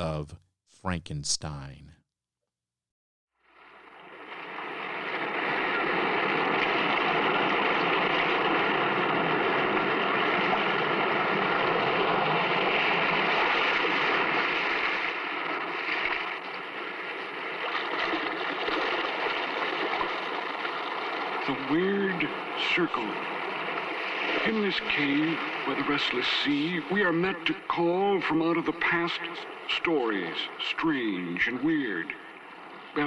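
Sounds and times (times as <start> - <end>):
sea waves rushing: 3.5 - 33.0.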